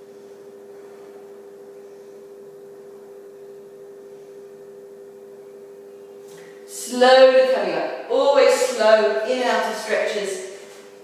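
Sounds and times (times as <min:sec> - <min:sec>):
steady hum of two tones: 0:00.0 - 0:11.0.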